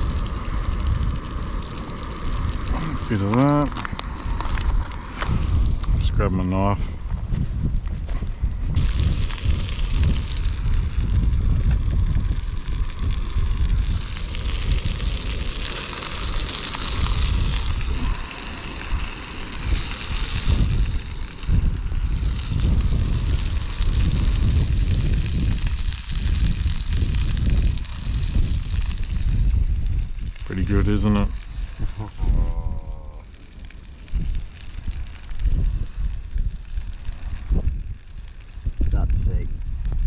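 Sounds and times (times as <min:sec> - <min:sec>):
fish fillets sizzling: 0:00.0 - 0:06.7, 0:08.6 - 0:40.0
wind buffeting microphone: 0:00.0 - 0:40.0.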